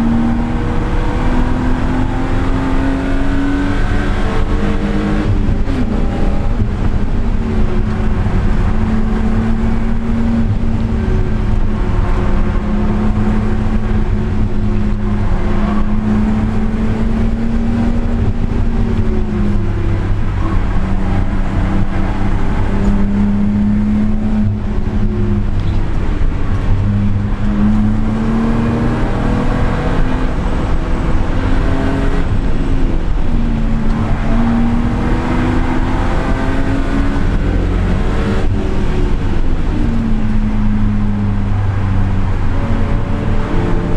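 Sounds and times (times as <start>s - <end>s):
car engine and exhaust revving: 0.0s - 43.9s.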